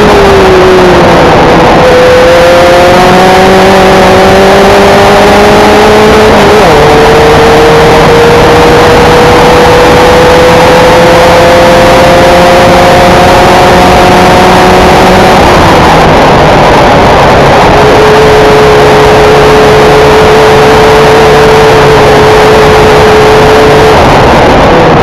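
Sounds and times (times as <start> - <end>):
heavy rushing noise: 0.0 - 25.0
race car engine at full throttle: 0.0 - 25.0.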